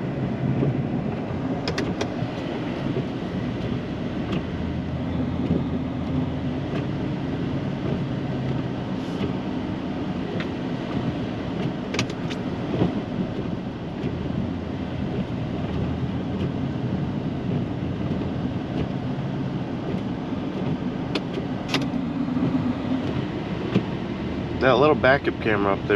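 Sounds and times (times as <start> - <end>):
truck engine rumbling: 0.0 - 25.9.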